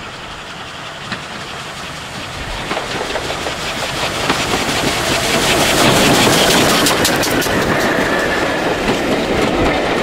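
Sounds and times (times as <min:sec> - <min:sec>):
rail noise: 0:00.0 - 0:10.0
steam locomotive chuffing: 0:00.0 - 0:10.0.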